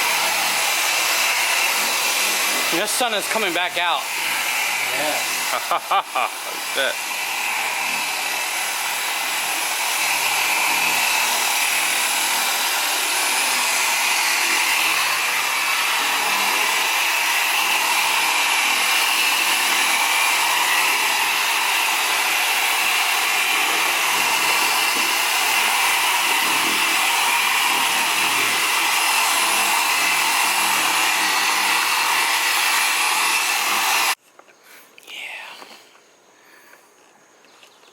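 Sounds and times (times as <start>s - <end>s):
polisher running: 0.0s - 34.2s.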